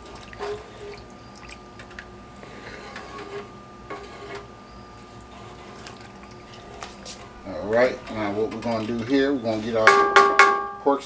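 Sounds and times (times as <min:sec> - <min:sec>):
gravy sloshing while stirred: 0:00.0 - 0:10.1.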